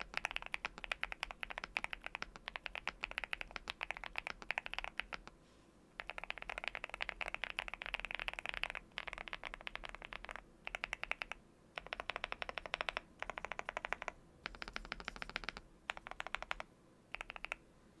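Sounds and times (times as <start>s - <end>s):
mechanical keyboard typing: 0.0s - 5.3s, 6.0s - 17.6s.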